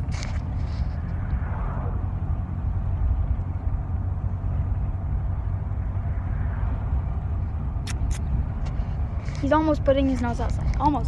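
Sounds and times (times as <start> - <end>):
road rumble: 0.0 - 11.0
truck engine: 0.0 - 11.0.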